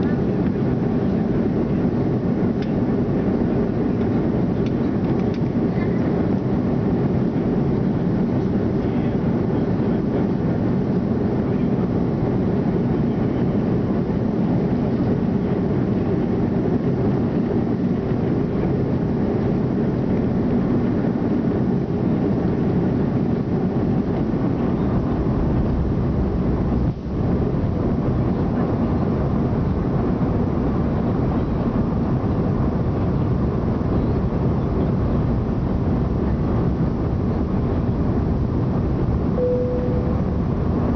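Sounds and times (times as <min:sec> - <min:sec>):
jet airliner cabin noise: 0:00.0 - 0:40.9.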